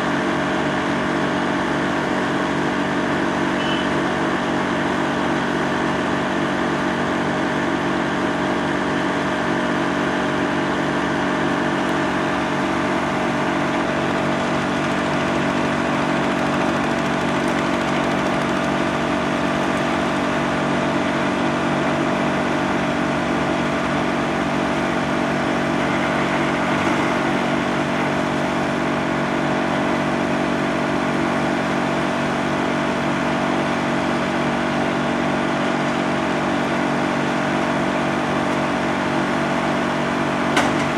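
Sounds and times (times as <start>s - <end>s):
wood chipper running: 0.0s - 40.9s.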